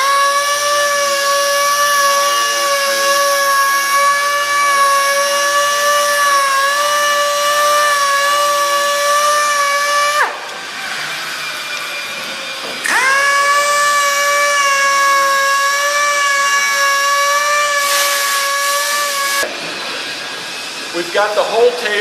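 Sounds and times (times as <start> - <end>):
sander whining: 0.0 - 21.6.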